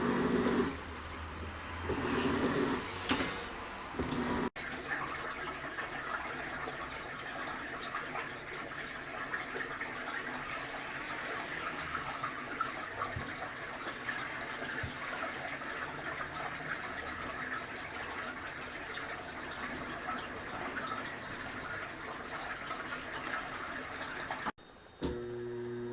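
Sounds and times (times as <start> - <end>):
water rushing in tub: 0.0 - 24.6
washing machine running: 0.0 - 25.9.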